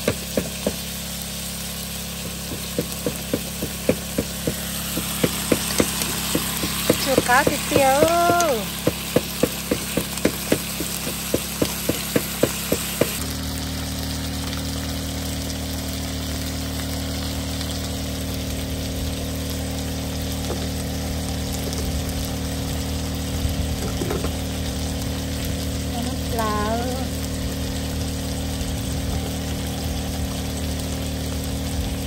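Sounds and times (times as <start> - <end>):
faint sizzle: 0.0 - 32.0
low mechanical hum: 0.0 - 32.0.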